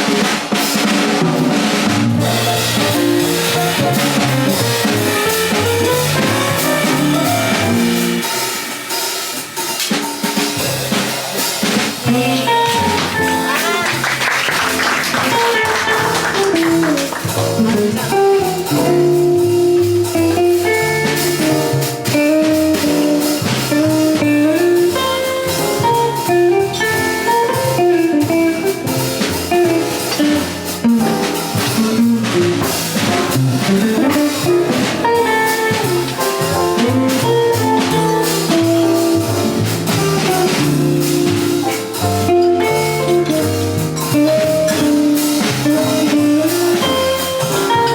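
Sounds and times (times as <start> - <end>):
drums with cymbals: 0.0 - 47.9
jazz combo playing: 0.0 - 47.9
walking bass: 0.0 - 47.9.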